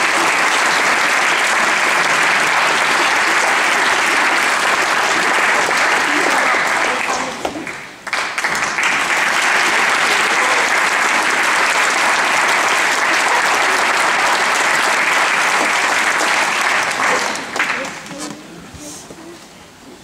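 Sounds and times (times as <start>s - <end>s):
audience applauding: 0.0s - 18.1s.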